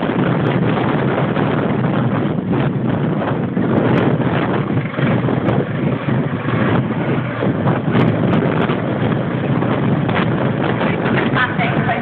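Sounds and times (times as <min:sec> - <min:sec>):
helicopters flying overhead: 0:00.0 - 0:12.0
wind buffeting microphone: 0:00.0 - 0:12.0.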